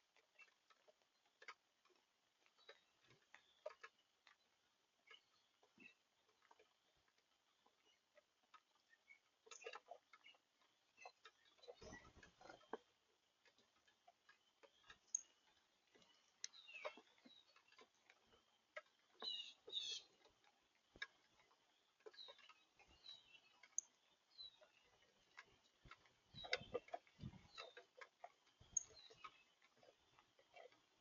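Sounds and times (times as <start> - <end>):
faint ticks and clicks: 0.0 - 31.0
small birds chirping: 0.0 - 31.0.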